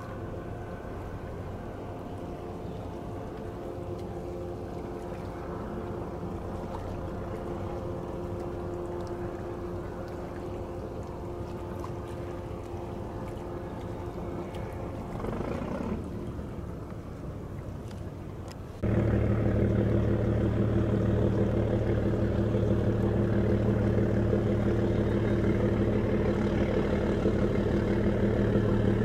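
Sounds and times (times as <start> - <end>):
ferry engines droning: 0.0 - 29.0
water noise: 0.0 - 29.0.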